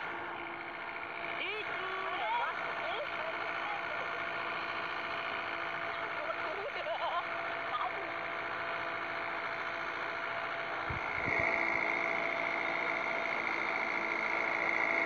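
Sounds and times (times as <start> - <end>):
excavator diesel engine: 0.0 - 15.0
steady whine: 0.0 - 15.0.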